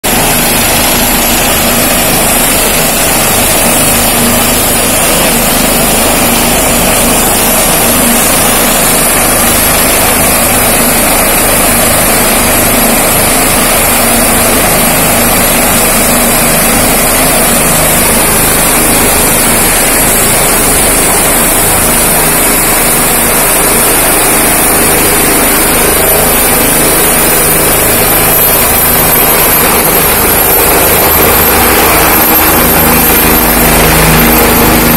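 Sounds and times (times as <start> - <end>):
helicopter rotor and engine: 0.0 - 34.9
high turbine whine: 0.0 - 34.9.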